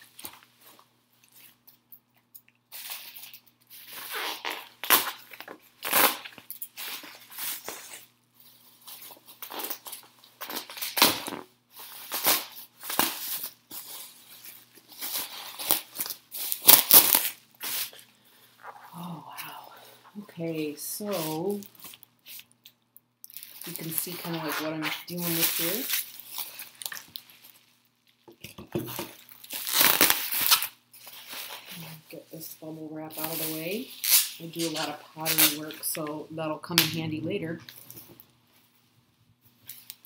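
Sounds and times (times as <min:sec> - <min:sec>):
wrapping tearing and crinkling: 0:00.0 - 0:36.1, 0:39.5 - 0:40.0.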